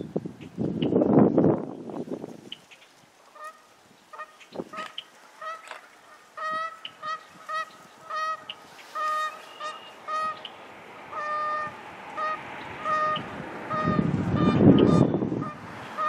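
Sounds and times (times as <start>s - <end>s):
waterfowl honking: 2.5s - 16.0s.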